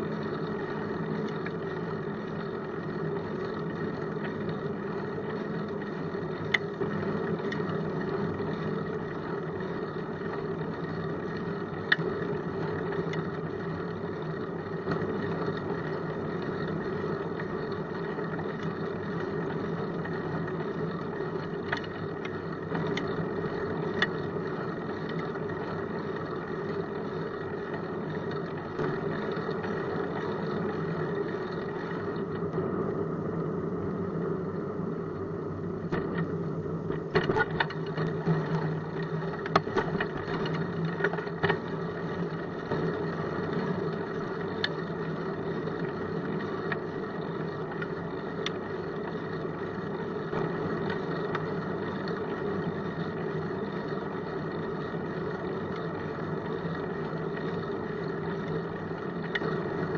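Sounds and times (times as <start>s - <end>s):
bicycle tyres rolling on asphalt: 0.0s - 59.9s.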